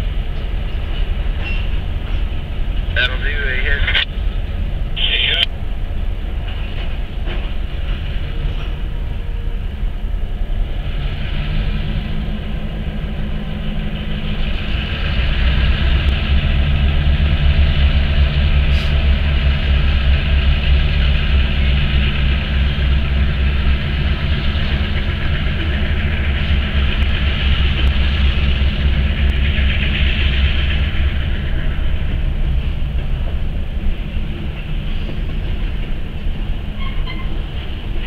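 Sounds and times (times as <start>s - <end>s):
diesel locomotive engines droning: 0.0s - 38.0s.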